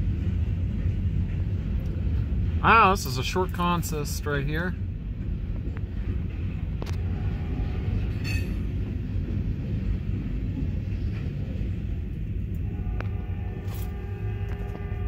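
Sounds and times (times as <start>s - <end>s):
train cars rumbling: 0.0s - 15.0s.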